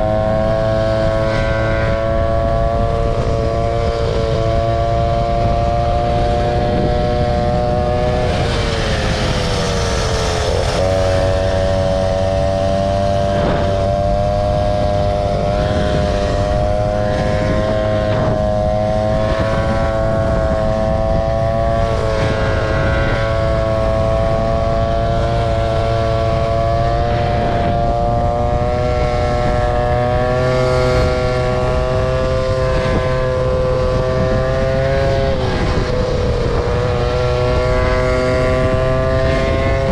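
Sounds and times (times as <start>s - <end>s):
scooter engine running: 0.0s - 39.9s
wind and road rumble: 0.0s - 39.9s.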